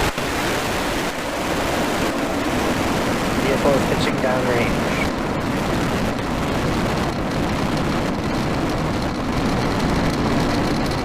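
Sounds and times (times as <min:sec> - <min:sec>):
rocket engines rushing: 0:00.0 - 0:11.0.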